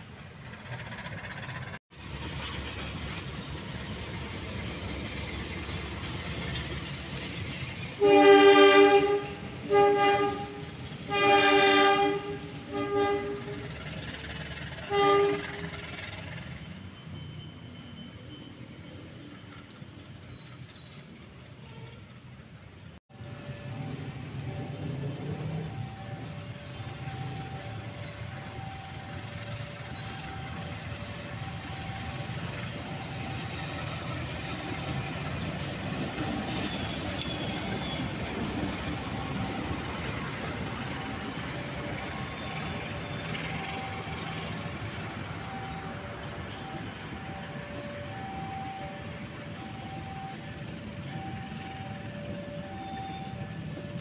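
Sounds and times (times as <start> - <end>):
diesel train rolling on rails: 0.0 - 54.0.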